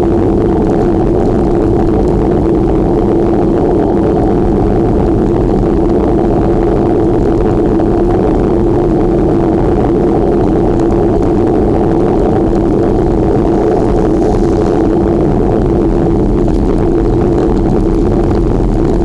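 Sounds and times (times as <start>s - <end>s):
bicycle tyre rumble: 0.0s - 19.0s
constant low hum: 0.0s - 19.0s
wind on microphone: 0.0s - 19.0s.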